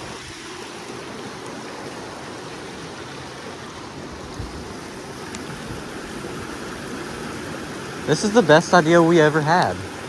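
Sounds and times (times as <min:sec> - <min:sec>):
river water rushing over rocks: 0:00.0 - 0:10.0.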